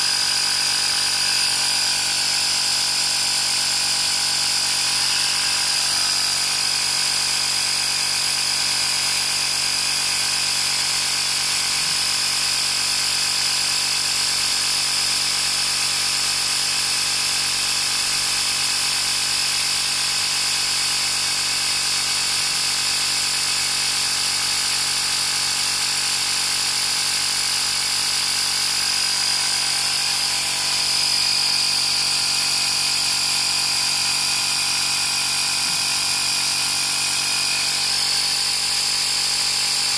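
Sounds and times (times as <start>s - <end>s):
air compressor buzzing: 0.0s - 39.9s.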